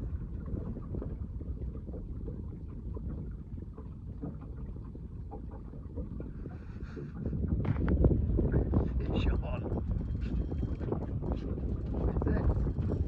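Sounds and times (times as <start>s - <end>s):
boat engine rumble: 0.0s - 13.0s
water against hull: 0.0s - 13.0s
wind on microphone: 0.0s - 13.0s.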